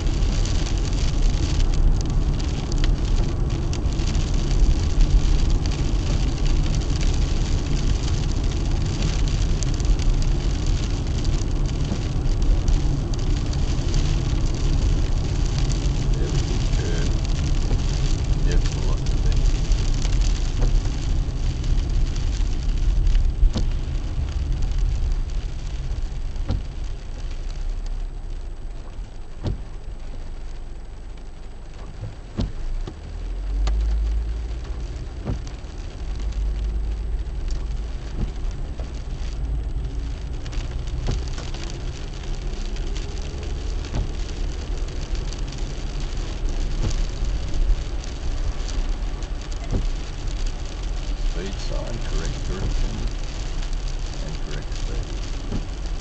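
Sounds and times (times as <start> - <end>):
deep rumble: 0.0 - 56.0
tyre noise on wet road: 0.0 - 56.0.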